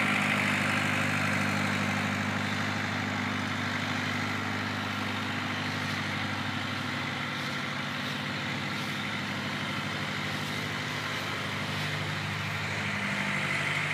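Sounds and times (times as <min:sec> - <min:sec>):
tractor diesel engine idling: 0:00.0 - 0:13.9.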